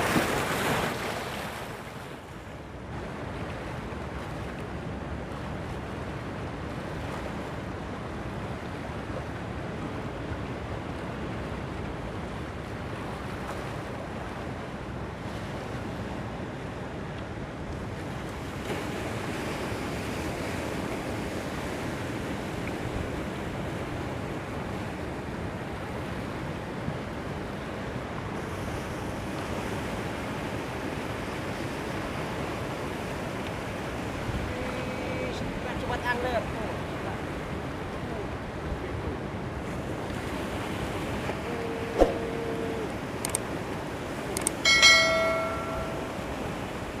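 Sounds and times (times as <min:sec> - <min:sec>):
rough sea surf washing in: 0:00.0 - 0:16.8, 0:17.4 - 0:47.0.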